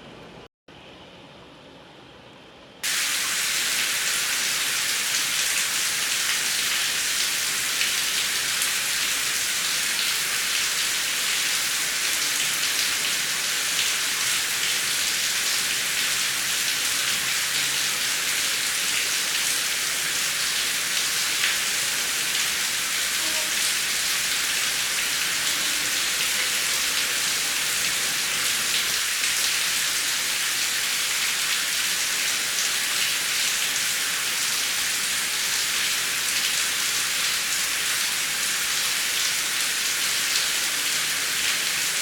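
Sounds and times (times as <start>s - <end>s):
heavy rain: 2.8s - 42.0s.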